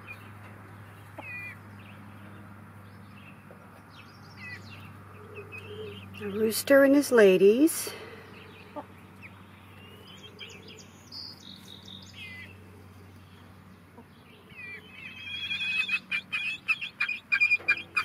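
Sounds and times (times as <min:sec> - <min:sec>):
chickens chirping: 0:00.0 - 0:18.0.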